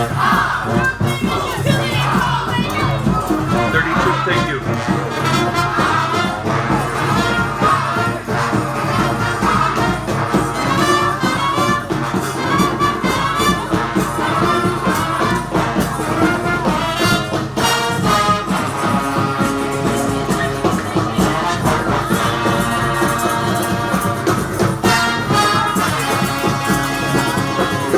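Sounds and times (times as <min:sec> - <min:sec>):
brass horns playing melody: 0:00.0 - 0:27.9
steady drumming: 0:00.0 - 0:27.9.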